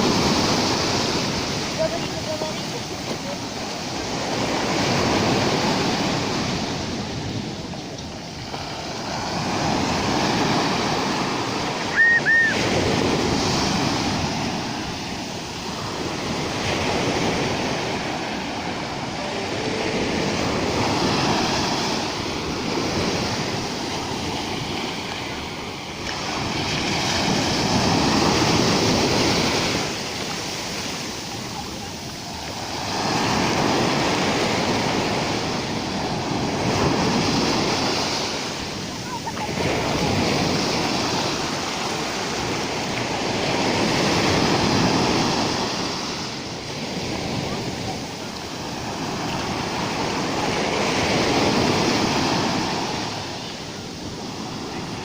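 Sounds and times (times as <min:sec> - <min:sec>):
sea surf breaking on shore: 0:00.0 - 0:55.0.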